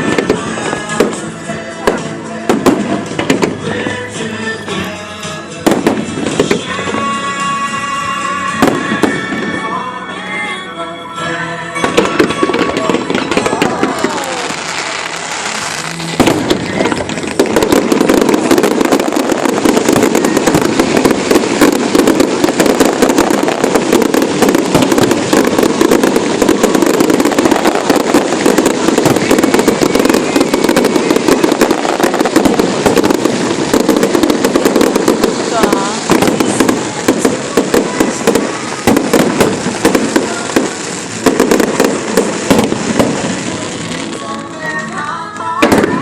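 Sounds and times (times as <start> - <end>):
fireworks crackling and popping: 0.0 - 10.3, 11.8 - 46.0.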